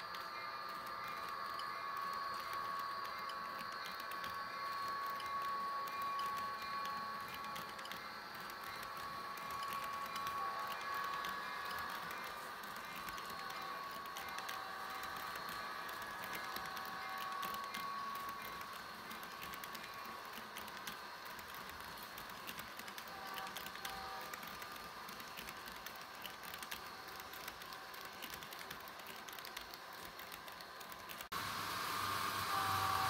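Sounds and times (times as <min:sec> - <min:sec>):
model train wheel clicks: 0:00.0 - 0:31.3
faint steady whine: 0:00.0 - 0:33.0.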